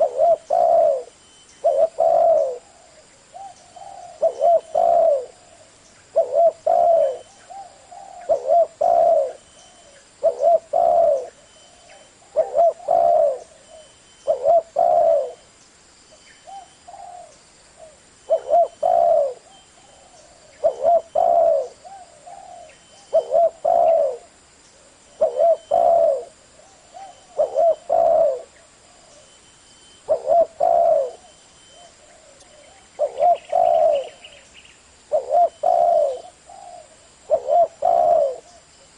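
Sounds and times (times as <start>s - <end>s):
dove cooing: 0.0s - 15.5s, 16.4s - 38.9s.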